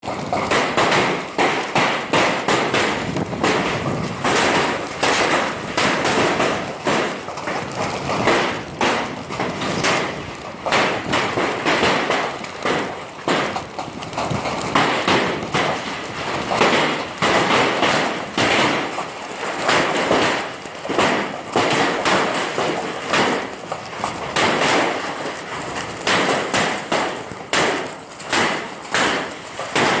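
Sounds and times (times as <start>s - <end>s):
hail hitting hard surfaces: 0.0s - 30.0s.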